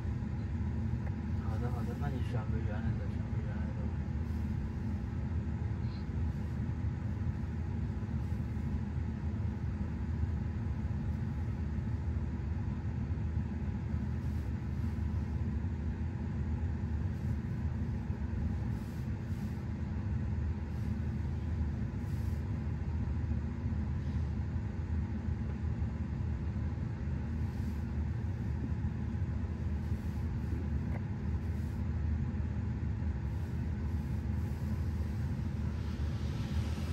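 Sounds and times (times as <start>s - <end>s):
faint constant hum: 0.0s - 36.9s
low rumble in car cabin: 0.0s - 36.9s.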